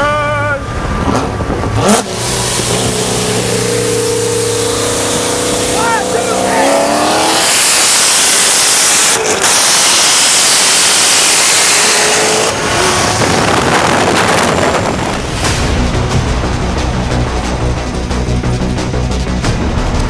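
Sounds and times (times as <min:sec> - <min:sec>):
car engines racing: 0:00.0 - 0:19.4
wind rush: 0:00.6 - 0:20.0.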